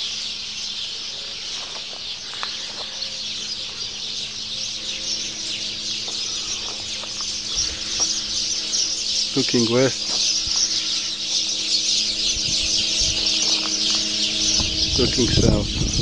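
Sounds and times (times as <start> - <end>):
birds chirping in chorus: 0.0 - 16.0
faint low hum: 0.0 - 16.0.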